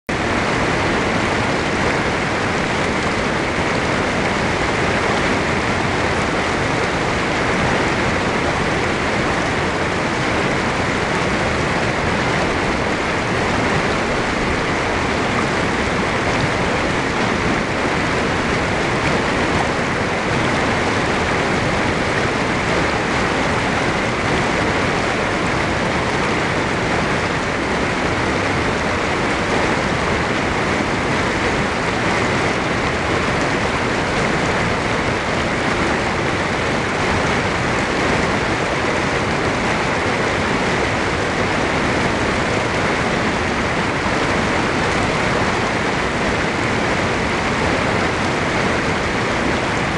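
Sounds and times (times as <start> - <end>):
creek rushing over rocks: 0.1 - 49.9.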